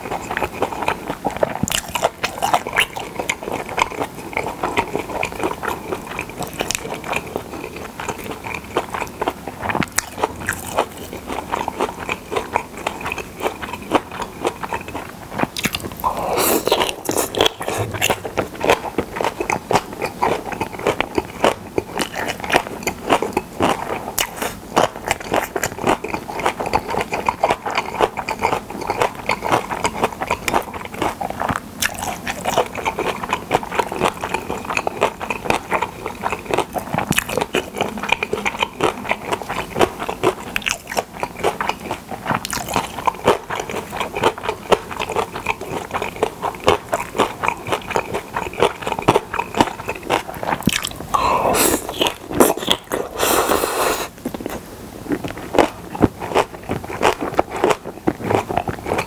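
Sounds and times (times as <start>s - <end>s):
close chewing with crunches: 0.0s - 59.0s.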